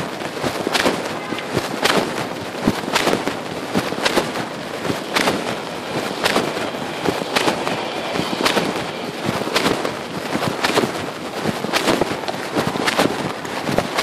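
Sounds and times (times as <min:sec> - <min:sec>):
pocket fabric rubbing on microphone: 0:00.0 - 0:14.0
steady noisy background: 0:00.0 - 0:14.0.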